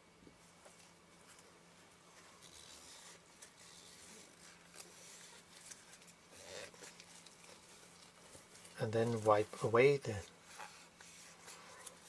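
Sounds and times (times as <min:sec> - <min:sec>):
faint steady hum: 0:00.0 - 0:12.0
faint scratchy rubbing: 0:00.7 - 0:12.0.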